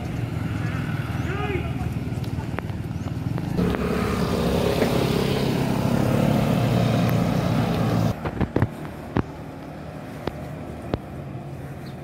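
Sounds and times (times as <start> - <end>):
vehicle engine running: 1.6 - 12.0.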